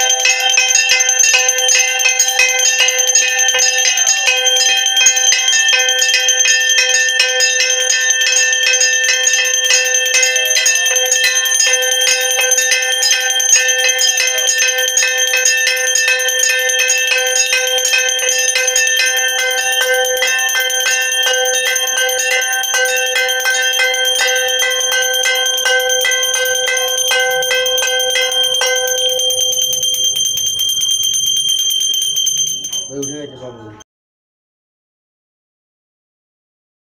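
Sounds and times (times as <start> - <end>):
brass bell rung rapidly: 0.0 - 33.5.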